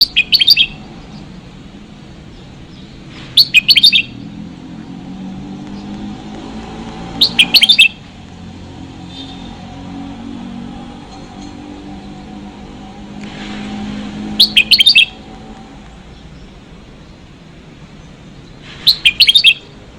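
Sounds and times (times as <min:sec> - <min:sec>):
bird singing high chirps: 0:00.0 - 0:01.5, 0:02.2 - 0:04.5, 0:05.5 - 0:17.2, 0:18.0 - 0:19.8.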